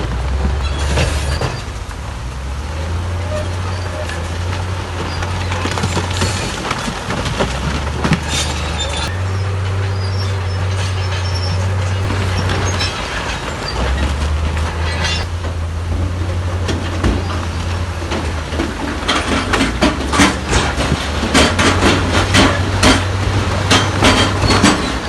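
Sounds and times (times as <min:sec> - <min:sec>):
tracks squealing and clanking: 0:00.0 - 0:01.9, 0:02.7 - 0:25.0
bulldozer diesel engine humming: 0:00.0 - 0:25.0.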